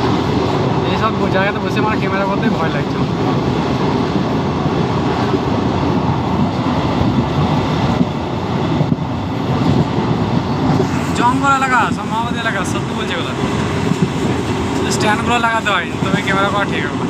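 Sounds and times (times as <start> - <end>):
train rumbling and rattling: 0.0 - 17.0.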